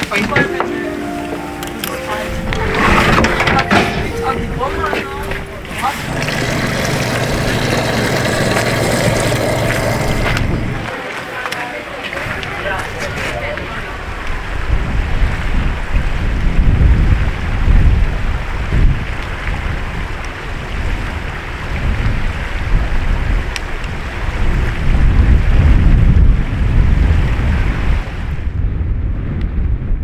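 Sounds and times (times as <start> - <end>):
wind buffeting microphone: 2.2 - 10.9, 12.2 - 30.0.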